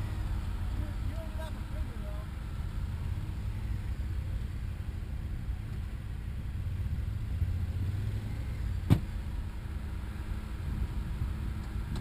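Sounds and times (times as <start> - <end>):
engines idling low hum: 0.0 - 12.0.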